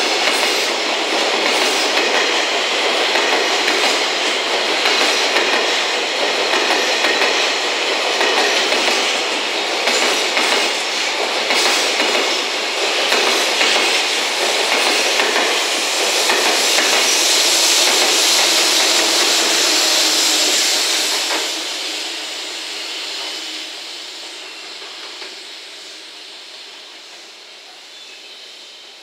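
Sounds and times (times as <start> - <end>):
electric locomotive passing: 0.0 - 29.0
train wheels running over rails: 0.0 - 29.0.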